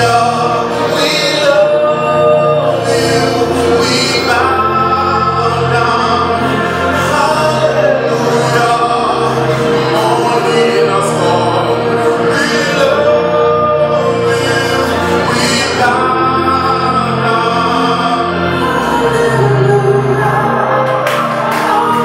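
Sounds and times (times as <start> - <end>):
choir singing gospel: 0.0 - 22.0
instrumental backing: 0.0 - 22.0.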